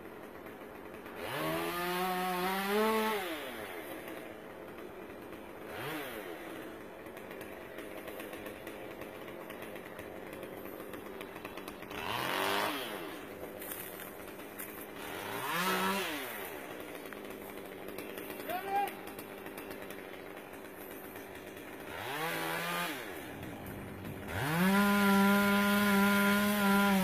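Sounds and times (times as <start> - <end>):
chainsaw idling and revving: 0.0 - 27.0.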